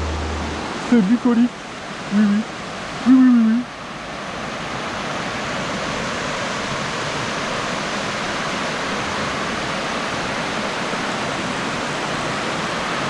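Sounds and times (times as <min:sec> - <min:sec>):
river water rushing over cascade: 0:00.0 - 0:13.0.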